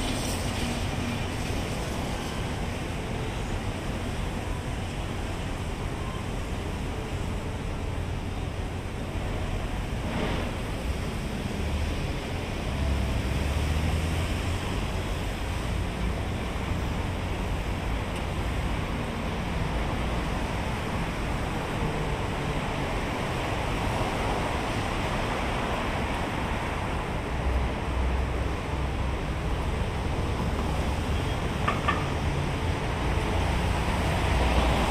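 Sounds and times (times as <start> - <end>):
steady rushing outdoor noise: 0.0 - 34.9.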